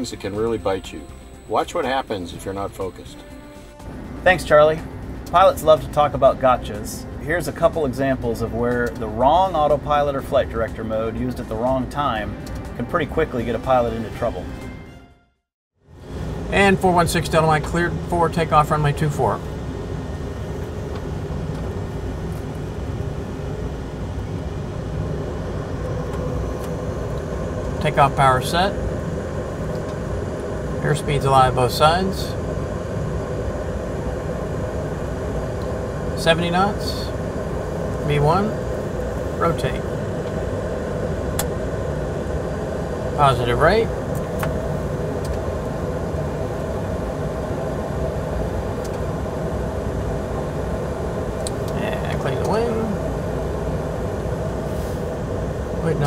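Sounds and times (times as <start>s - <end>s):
simulated jet engine rumble: 0.0s - 14.6s, 15.8s - 56.0s.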